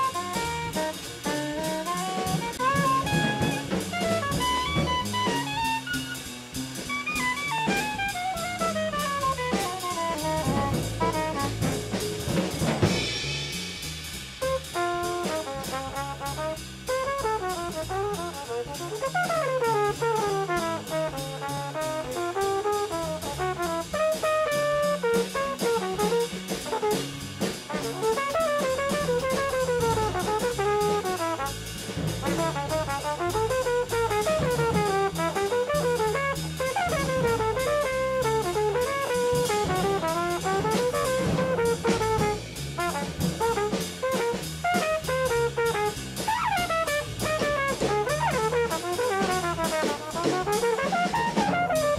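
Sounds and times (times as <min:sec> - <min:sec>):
saxophone solo: 0:00.0 - 0:11.7, 0:16.4 - 0:21.5, 0:22.1 - 0:27.1, 0:27.7 - 0:31.5, 0:32.3 - 0:51.9
bass line: 0:00.0 - 0:51.9
drum kit: 0:00.0 - 0:51.9.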